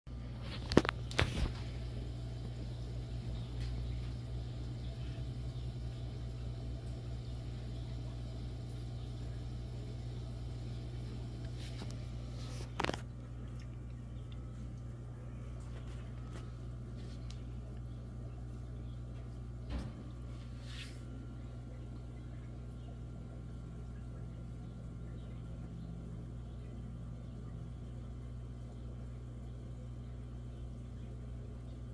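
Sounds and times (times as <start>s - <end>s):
aquarium equipment humming: 0.1s - 31.9s.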